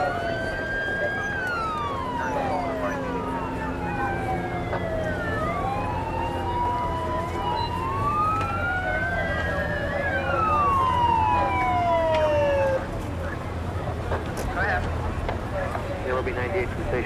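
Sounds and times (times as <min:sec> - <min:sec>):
emergency sirens wailing: 0:00.0 - 0:17.0.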